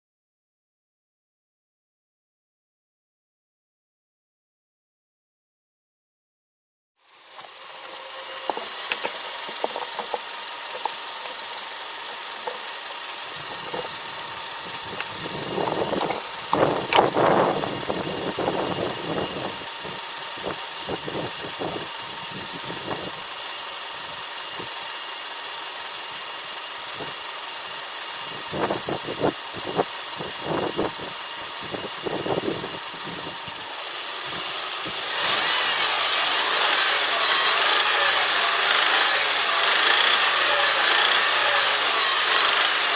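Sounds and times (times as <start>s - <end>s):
engine knocking: 7.0s - 42.9s.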